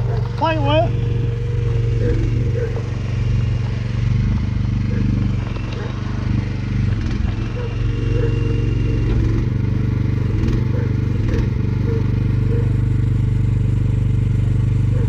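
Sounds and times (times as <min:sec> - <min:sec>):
mini excavator engine running: 0:00.0 - 0:15.0.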